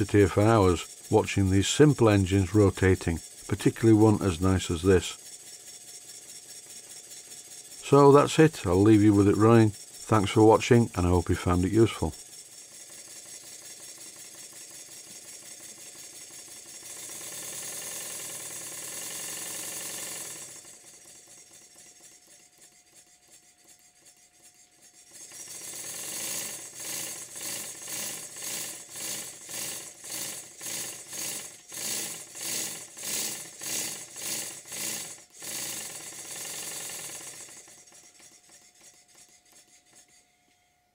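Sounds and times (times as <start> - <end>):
model steam engine exhaust beats: 0.0 - 40.5.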